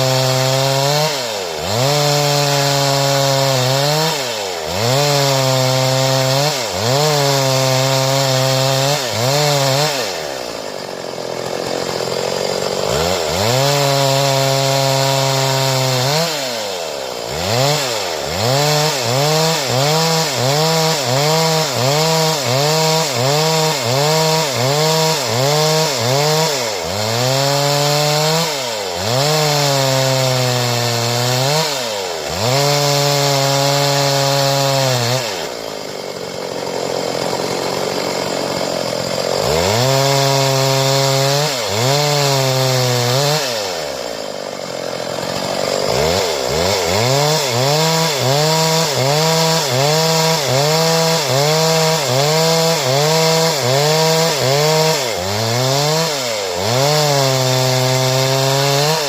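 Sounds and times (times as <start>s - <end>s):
chainsaw cutting boards: 0.0s - 59.0s.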